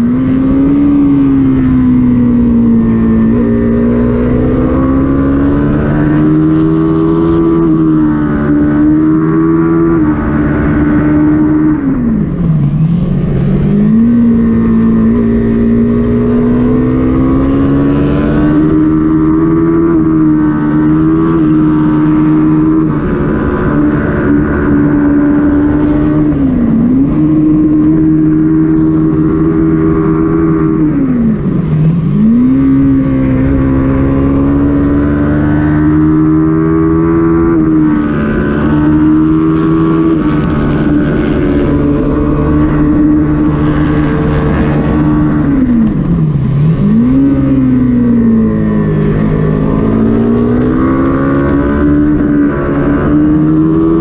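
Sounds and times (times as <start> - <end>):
motorcycle engine at high revs: 0.0 - 54.0
wind noise: 0.0 - 54.0.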